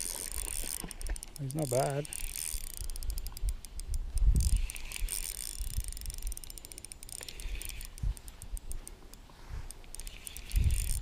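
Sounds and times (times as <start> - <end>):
fishing reel clicking: 0.0 - 11.0.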